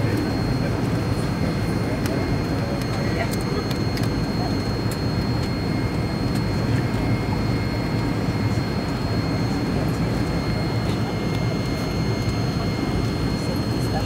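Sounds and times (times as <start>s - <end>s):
faint high whine: 0.0s - 14.0s
jet cabin engine rumble: 0.0s - 14.0s.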